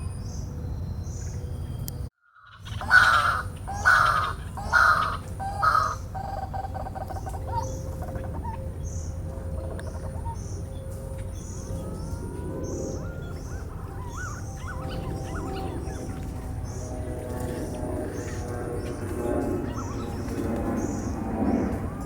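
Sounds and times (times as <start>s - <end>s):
bird harsh calls: 2.3s - 22.0s.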